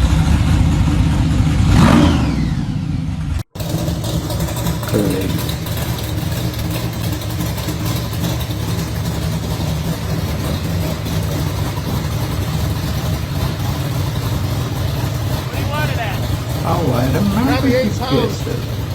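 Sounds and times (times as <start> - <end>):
car engine idling rumble: 0.0 - 18.9.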